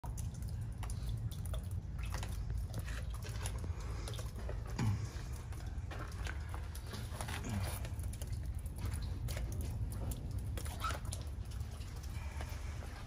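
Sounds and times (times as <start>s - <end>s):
steady low rumble: 0.0s - 13.0s
water dripping: 0.0s - 13.0s.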